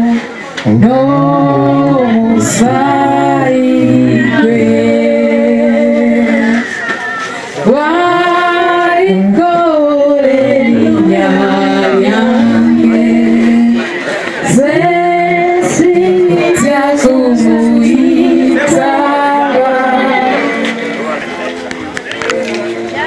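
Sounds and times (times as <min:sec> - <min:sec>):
men and women singing together: 0:00.0 - 0:06.9, 0:07.6 - 0:21.5.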